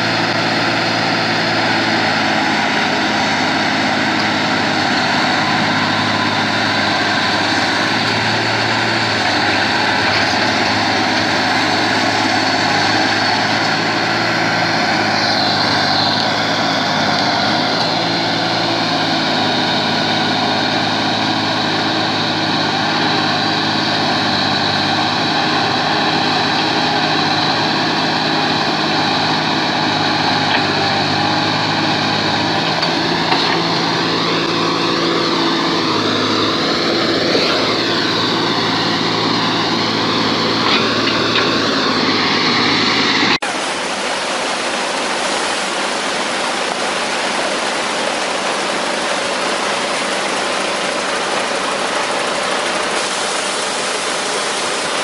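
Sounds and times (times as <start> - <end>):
heavy diesel engines under load: 0.0 - 55.0
truck engine on gravel road: 0.0 - 55.0.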